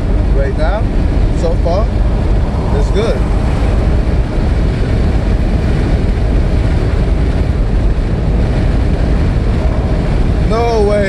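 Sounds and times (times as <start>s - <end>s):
wind and road noise in car: 0.0s - 11.0s.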